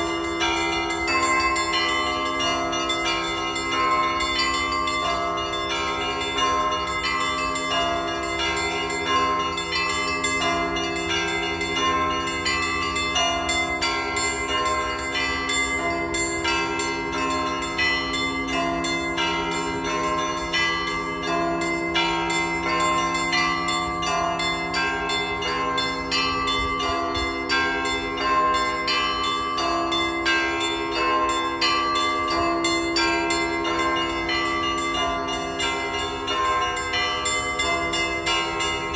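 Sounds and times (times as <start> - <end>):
large bells ringing: 0.0 - 38.9
small church bells struck rapidly: 0.0 - 38.9.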